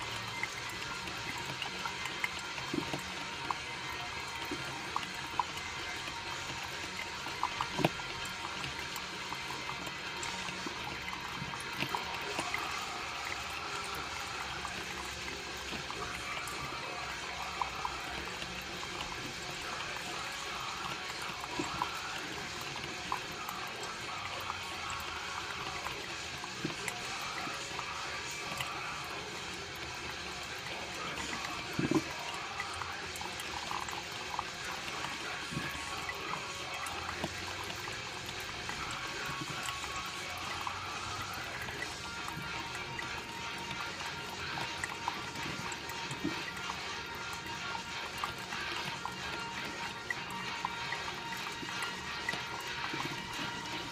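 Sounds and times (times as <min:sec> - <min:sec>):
coffee maker ticks and sputters: 0:00.0 - 0:53.9
water trickling into carafe: 0:00.0 - 0:53.9.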